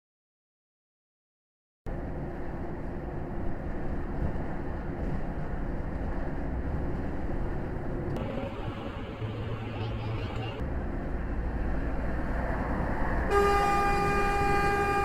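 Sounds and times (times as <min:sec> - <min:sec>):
lorry engine drone: 0:01.9 - 0:15.0.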